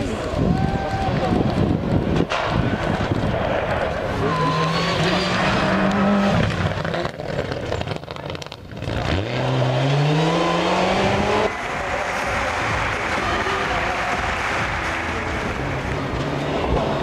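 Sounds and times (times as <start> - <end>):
rally car engine at full throttle: 1.4 - 17.0.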